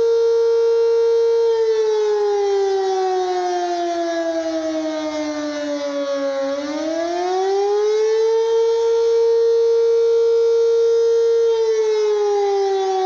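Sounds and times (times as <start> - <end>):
outdoor warning siren: 0.0 - 13.0.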